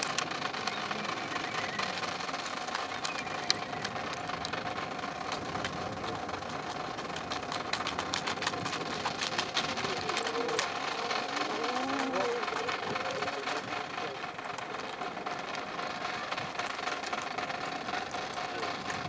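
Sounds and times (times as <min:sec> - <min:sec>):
faint voices: 0:00.0 - 0:19.0
rifles clicking and clacking: 0:00.0 - 0:19.0
steady background hum: 0:00.0 - 0:19.0.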